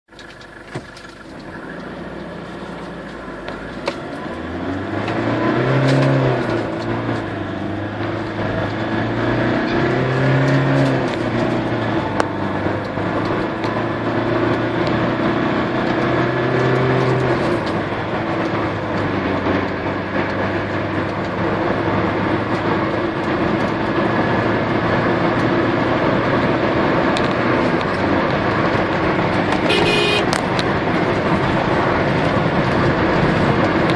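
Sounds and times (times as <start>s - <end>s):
diesel engine accelerating: 0.1s - 33.9s
tyre and road noise: 0.1s - 33.9s.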